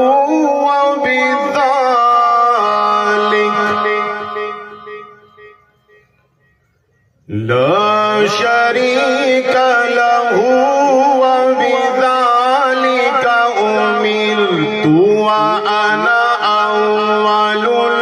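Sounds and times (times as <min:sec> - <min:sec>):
man reciting melodically: 0:00.0 - 0:05.6, 0:07.2 - 0:18.0.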